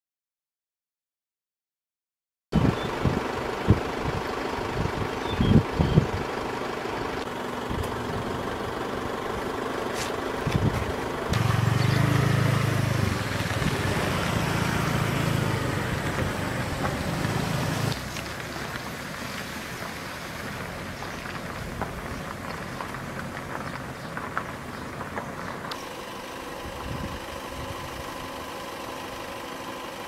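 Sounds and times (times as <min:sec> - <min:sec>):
engine humming: 0:02.6 - 0:30.0.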